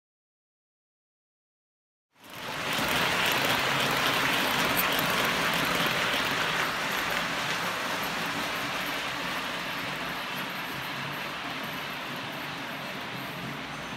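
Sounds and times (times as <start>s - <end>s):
model train rolling on rails: 2.2s - 13.9s.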